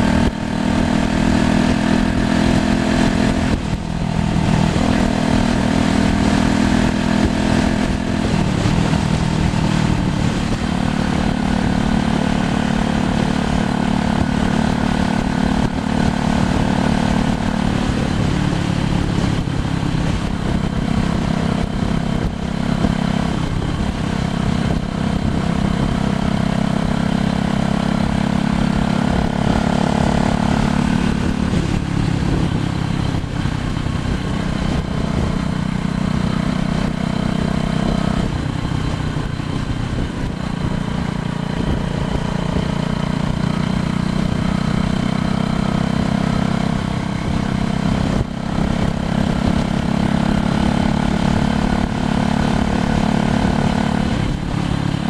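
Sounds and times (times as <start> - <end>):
wind noise: 0.0 - 55.0.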